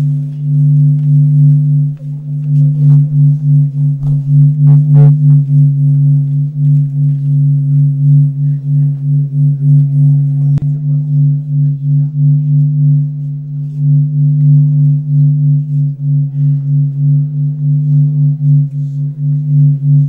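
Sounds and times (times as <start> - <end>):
wavering low drone music: 0.0 - 20.0.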